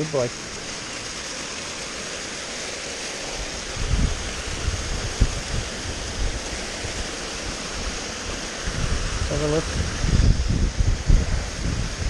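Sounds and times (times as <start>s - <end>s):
stream rushing down waterfall: 0.0s - 12.0s.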